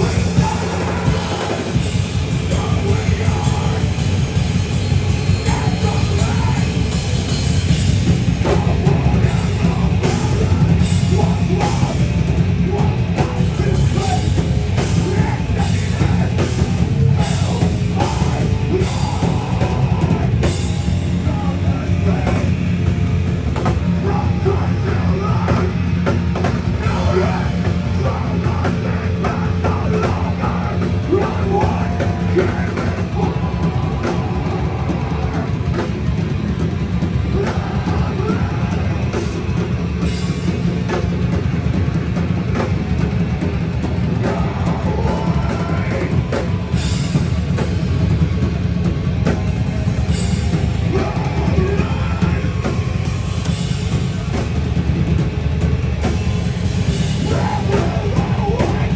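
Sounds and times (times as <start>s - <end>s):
punk band playing live: 0.0s - 58.9s.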